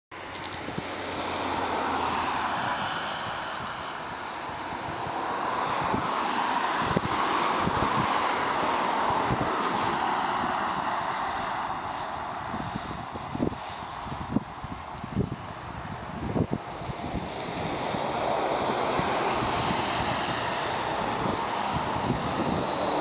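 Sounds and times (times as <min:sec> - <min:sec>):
car passing: 0:00.2 - 0:23.0
jet engines rushing: 0:00.4 - 0:23.0.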